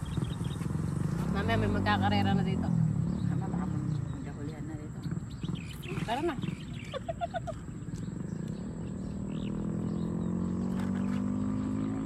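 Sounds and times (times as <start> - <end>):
vehicle engine droning: 0.0 - 6.9, 7.6 - 12.0.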